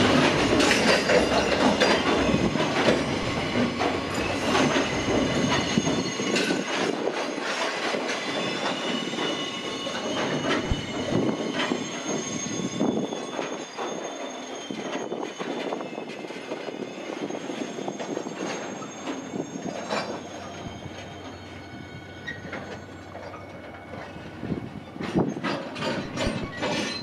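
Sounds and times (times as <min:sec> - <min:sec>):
high wheel squeal: 0:00.0 - 0:27.0
train wheels rumbling on rail: 0:00.0 - 0:27.0.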